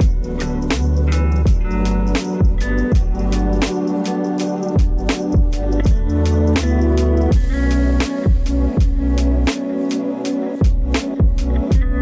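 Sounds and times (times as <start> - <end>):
music with bass and drums: 0.0 - 12.0.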